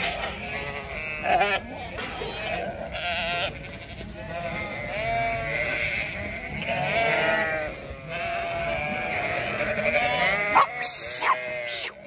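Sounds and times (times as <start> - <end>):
sheep bleating: 0.0 - 12.0.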